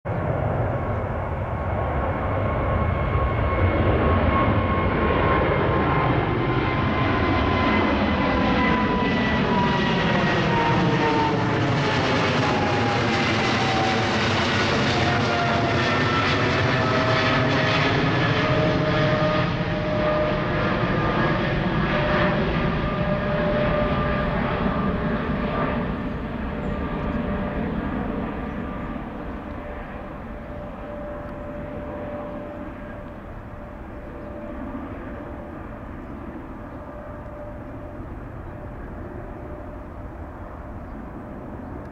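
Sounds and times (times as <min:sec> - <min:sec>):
jet aircraft passing overhead: 0:00.1 - 0:41.9.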